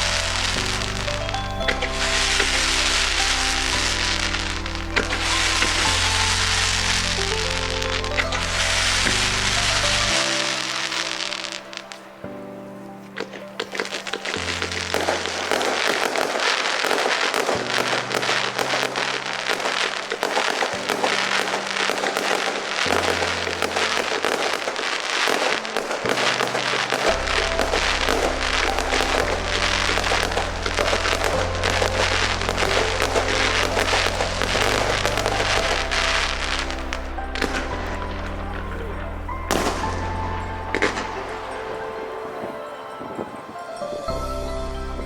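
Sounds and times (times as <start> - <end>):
fireworks popping and crackling: 0.0 - 44.2.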